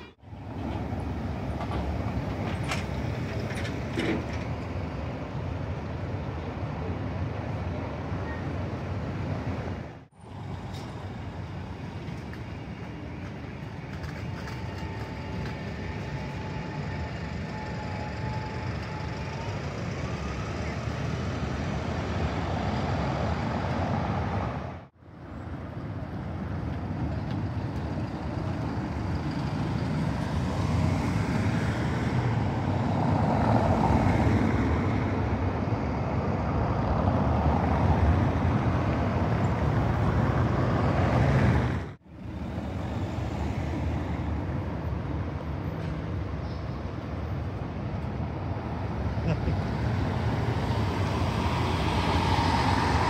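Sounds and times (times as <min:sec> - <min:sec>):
buses and street traffic: 0:00.0 - 0:53.0.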